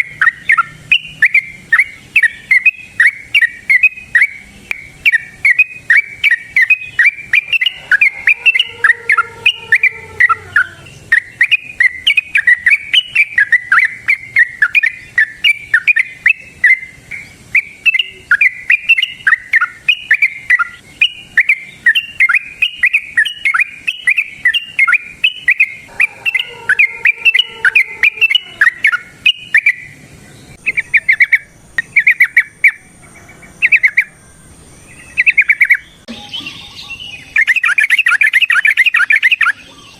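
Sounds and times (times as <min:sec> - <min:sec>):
bird singing bubbly chirps: 0:00.0 - 0:39.9.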